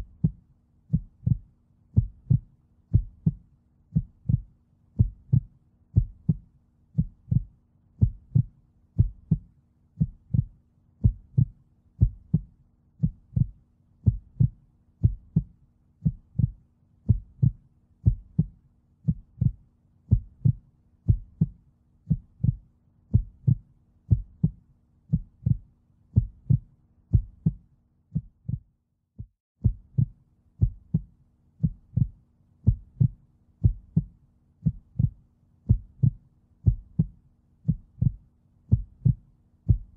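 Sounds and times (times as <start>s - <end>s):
heartbeat double thumps: 0.0s - 25.6s, 26.2s - 39.9s.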